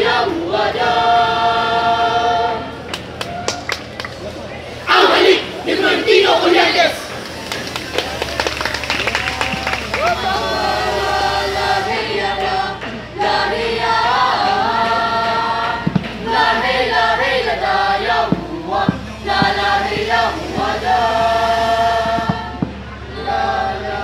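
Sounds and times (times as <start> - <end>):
group singing unaccompanied: 0.0 - 3.0, 4.8 - 24.0.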